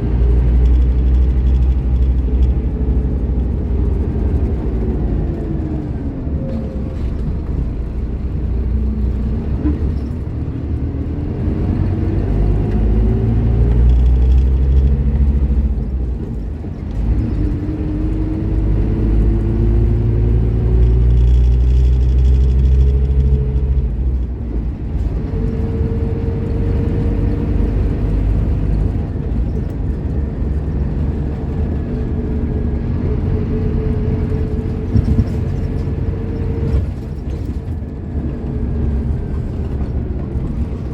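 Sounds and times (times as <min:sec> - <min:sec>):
bus diesel engine accelerating: 0:00.0 - 0:40.9.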